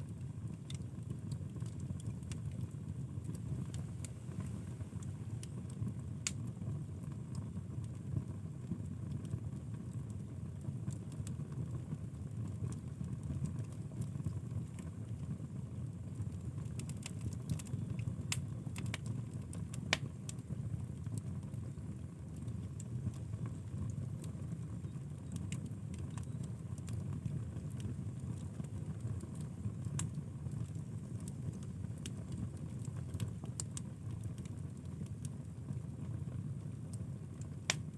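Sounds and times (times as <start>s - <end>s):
low fire rumble: 0.0s - 37.9s
wood fire crackling and popping: 0.0s - 37.9s.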